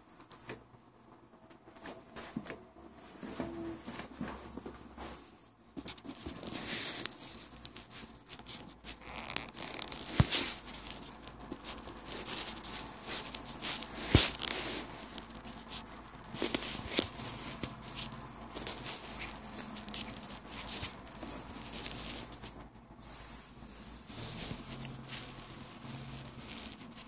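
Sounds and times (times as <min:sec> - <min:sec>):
crackling and rustling: 0:00.0 - 0:27.0.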